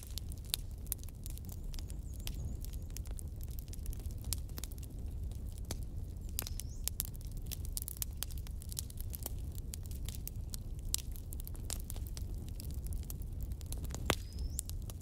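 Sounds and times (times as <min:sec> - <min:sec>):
hot oil crackling and popping: 0:00.0 - 0:15.0.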